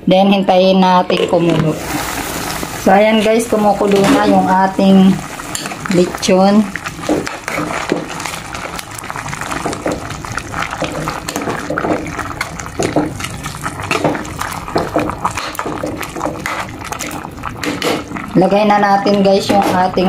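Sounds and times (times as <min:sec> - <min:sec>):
broth bubbling in pot: 0:00.9 - 0:20.0
metal ladle stirring: 0:01.1 - 0:18.5.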